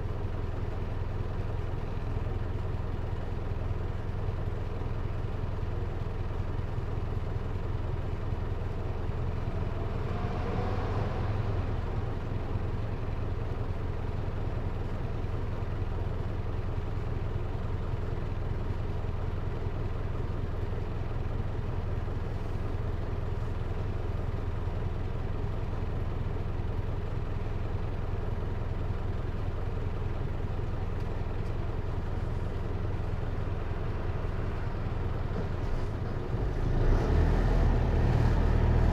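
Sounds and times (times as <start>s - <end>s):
diesel engine rumble inside cabin: 0.0s - 10.1s, 11.4s - 38.9s.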